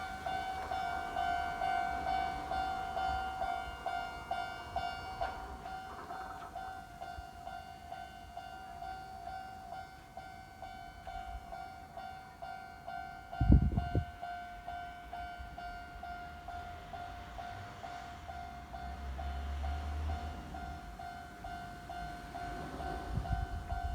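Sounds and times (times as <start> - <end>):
approaching train rumble: 0.0 - 23.9
level-crossing warning bell: 0.0 - 23.9.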